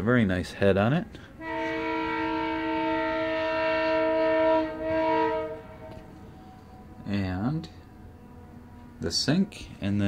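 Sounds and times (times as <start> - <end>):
locomotive air horn: 1.2 - 9.8.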